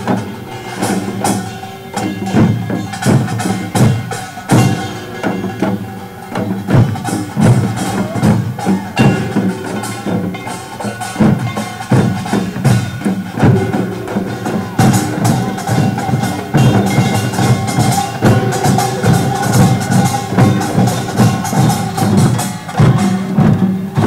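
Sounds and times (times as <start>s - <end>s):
drums beating fast rhythm: 0.0s - 24.0s
gongs ringing: 0.0s - 24.0s.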